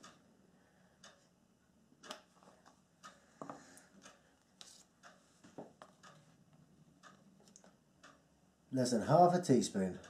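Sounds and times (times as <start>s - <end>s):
regular ticking: 0.0s - 10.0s.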